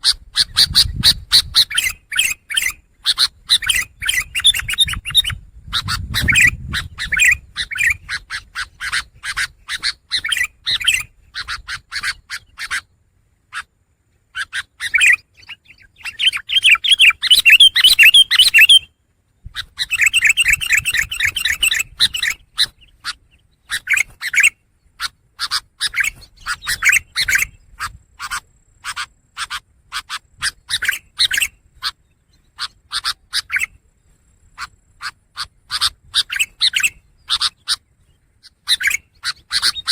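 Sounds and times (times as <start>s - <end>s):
bird harsh calls and chattering: 0.0s - 39.9s.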